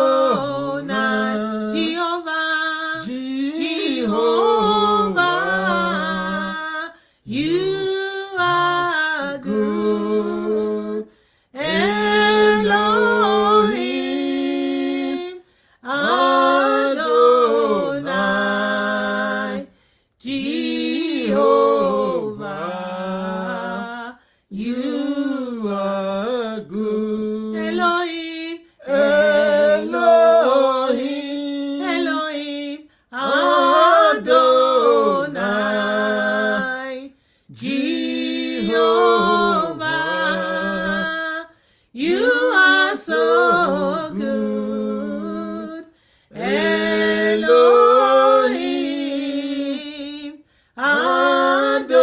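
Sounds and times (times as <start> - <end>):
person singing a chant: 0.0 - 52.0.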